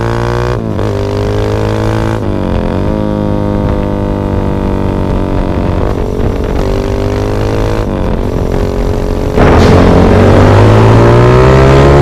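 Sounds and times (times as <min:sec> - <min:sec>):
motorcycle engine running hard: 0:00.0 - 0:12.0.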